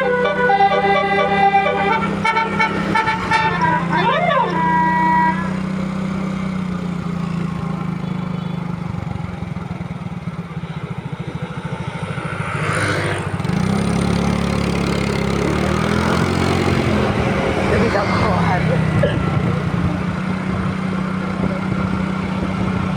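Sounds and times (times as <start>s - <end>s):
diesel engine rumbling: 0.0s - 22.9s.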